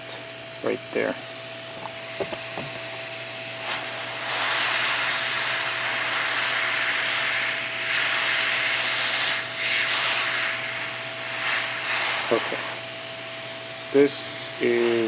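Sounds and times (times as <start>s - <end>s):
heat gun blowing: 1.8s - 15.0s.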